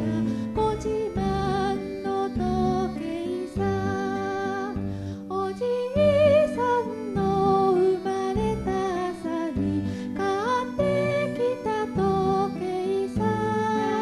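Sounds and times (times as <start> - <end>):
gentle background music: 0.0 - 14.0.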